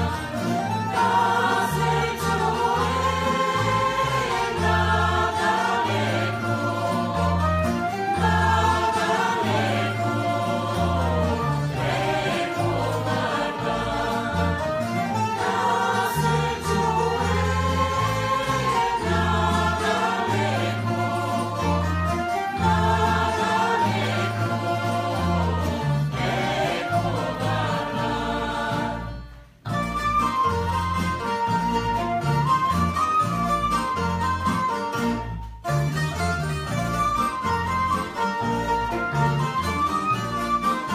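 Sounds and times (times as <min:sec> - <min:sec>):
mixed choir singing folk song: 0:00.0 - 0:34.9, 0:36.8 - 0:40.9.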